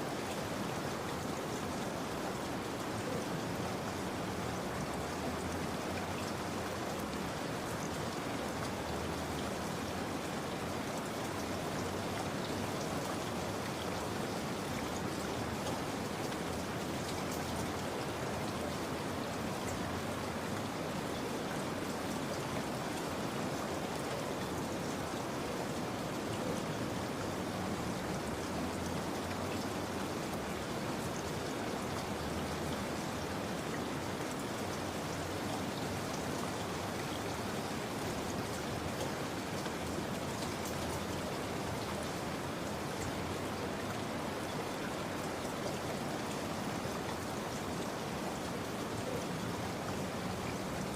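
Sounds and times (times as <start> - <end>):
rain on hard surface: 0.0 - 50.9.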